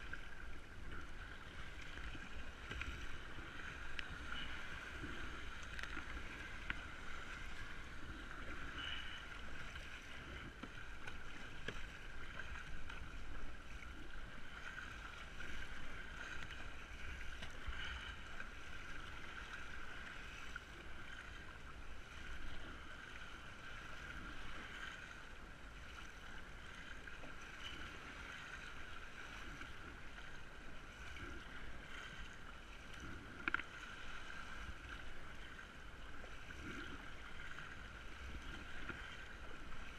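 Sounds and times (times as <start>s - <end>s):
water sloshing around kayak: 0.0s - 39.9s.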